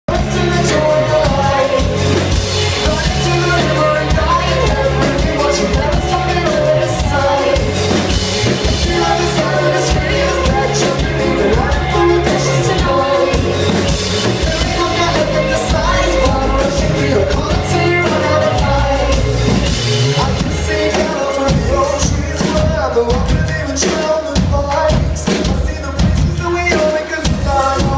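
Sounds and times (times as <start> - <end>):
live band playing pop-rock: 0.0 - 27.9
person singing: 0.0 - 27.9.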